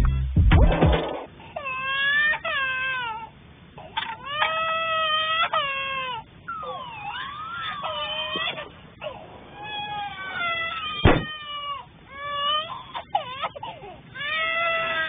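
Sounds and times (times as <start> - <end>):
infant crying: 1.6 - 15.0.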